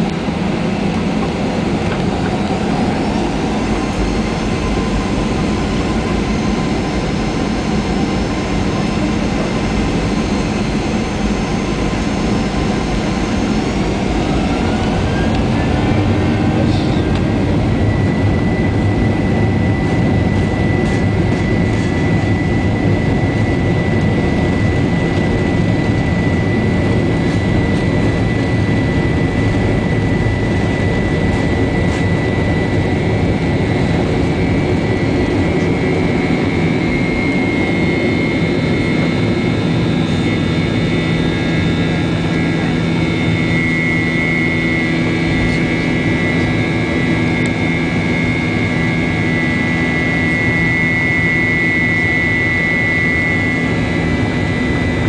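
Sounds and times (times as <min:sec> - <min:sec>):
jet engine noise: 0:00.0 - 0:55.0
rush of air in aircraft cabin: 0:00.0 - 0:55.0.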